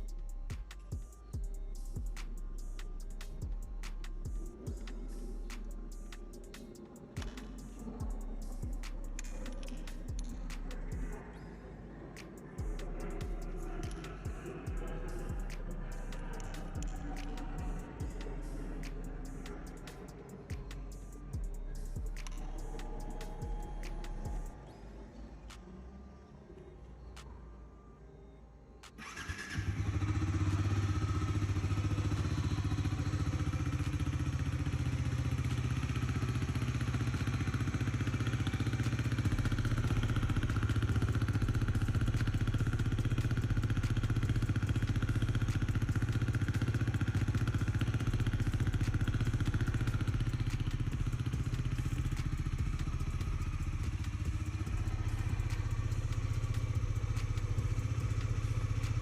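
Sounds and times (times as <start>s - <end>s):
motorcycle engine starting and idling: 0.0s - 24.6s, 28.9s - 59.0s.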